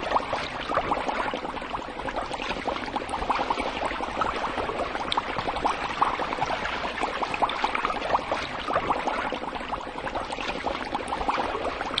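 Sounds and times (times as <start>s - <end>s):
aquarium water bubbling: 0.0s - 12.0s.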